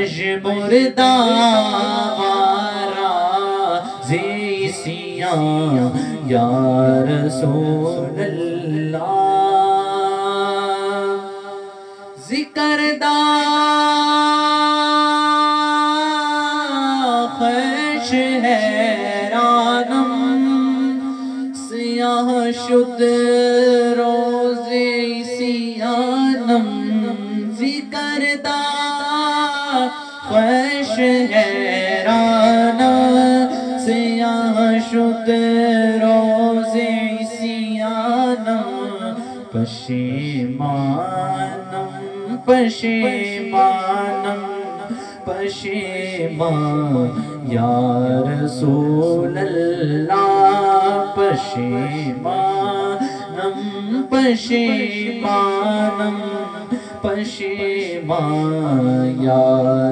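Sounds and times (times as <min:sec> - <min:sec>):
backing vocals: 0:00.0 - 0:59.9
man singing wordless melody: 0:00.0 - 0:59.9.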